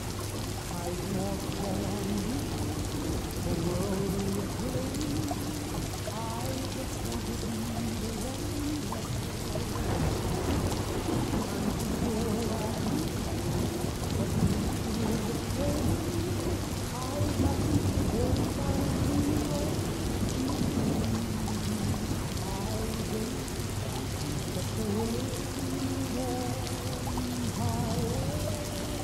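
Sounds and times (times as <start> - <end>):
distant thunder rumbling: 0.0 - 29.0
steady rain falling: 0.0 - 29.0.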